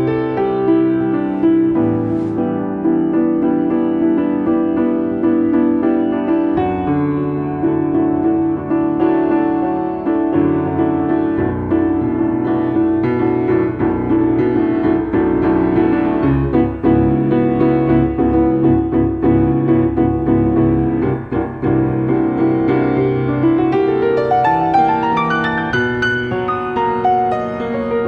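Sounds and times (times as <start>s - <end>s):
jazz piano improvising: 0.0s - 28.0s.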